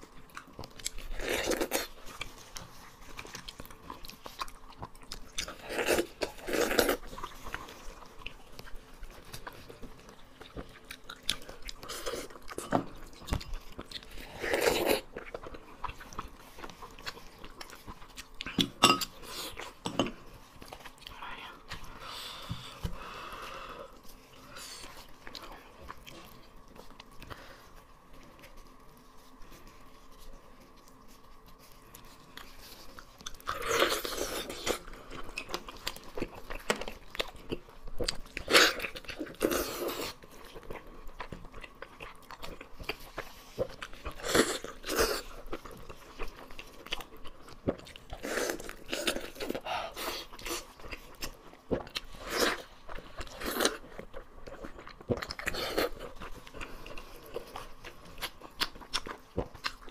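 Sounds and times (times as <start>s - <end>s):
wet chewing and smacking: 0.0s - 23.0s, 23.9s - 59.9s.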